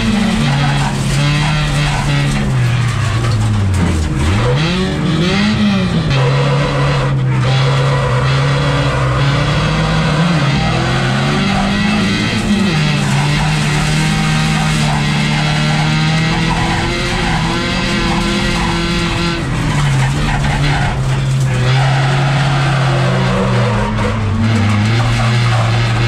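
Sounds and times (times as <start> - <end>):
race car engine revving: 0.0 - 26.0
tyre and track noise: 0.0 - 26.0.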